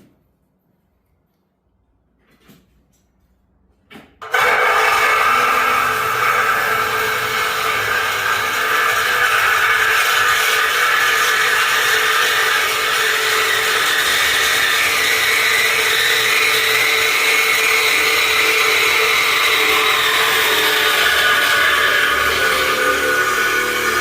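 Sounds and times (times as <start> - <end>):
power tool whining: 4.2 - 24.0.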